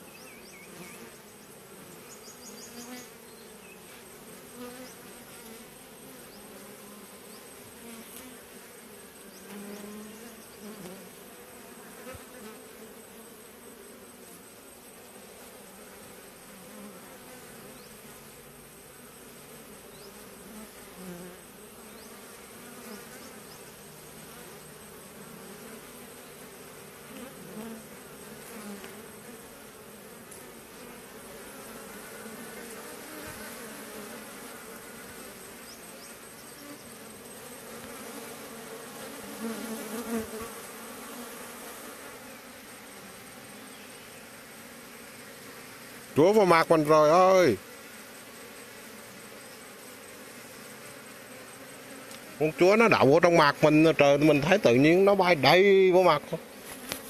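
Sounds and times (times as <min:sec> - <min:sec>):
bee swarm buzzing: 0:00.0 - 0:57.0.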